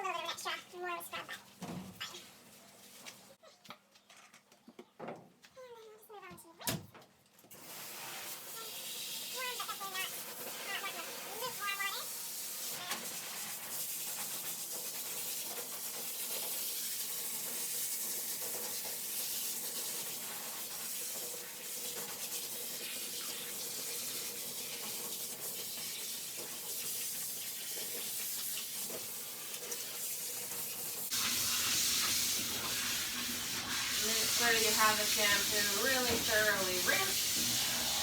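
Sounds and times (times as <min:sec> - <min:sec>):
running water rinsing dog: 0:07.5 - 0:38.0.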